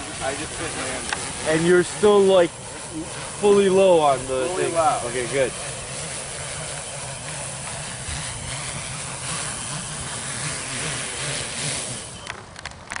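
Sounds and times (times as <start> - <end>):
hiss of air: 0.0 - 12.4
drone propellers whirring: 0.0 - 13.0.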